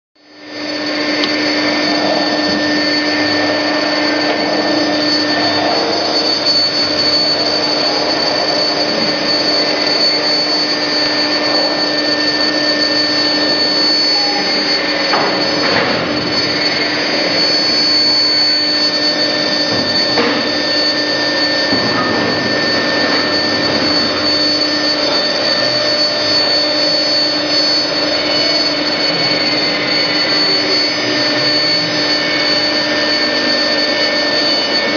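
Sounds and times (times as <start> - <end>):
cnc router hiss and whine: 0.2 - 34.9
machine hum and high tone: 0.2 - 34.9.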